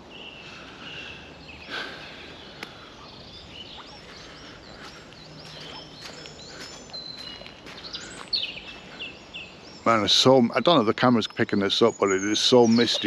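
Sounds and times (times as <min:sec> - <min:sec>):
birds singing and chirping: 0:00.0 - 0:13.0
outdoor background hiss: 0:00.0 - 0:13.0.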